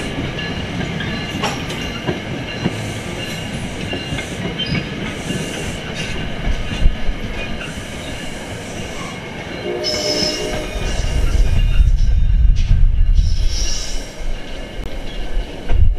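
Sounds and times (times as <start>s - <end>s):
train wheels clattering: 0.0s - 15.9s.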